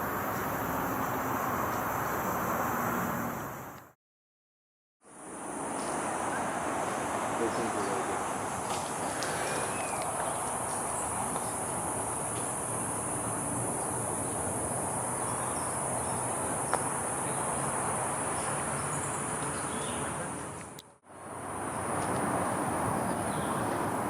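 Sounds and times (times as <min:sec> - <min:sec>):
insects trilling: 0:00.0 - 0:03.8, 0:05.1 - 0:20.5, 0:21.3 - 0:24.0.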